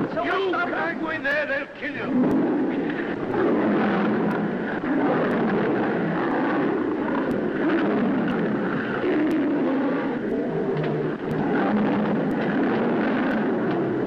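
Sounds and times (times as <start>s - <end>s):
big cats growling and snarling: 2.0s - 14.0s.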